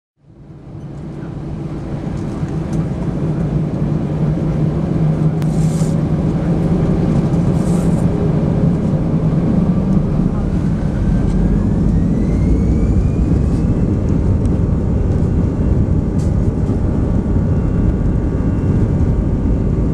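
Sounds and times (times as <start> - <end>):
jet engine cabin hum: 0.3 - 19.9.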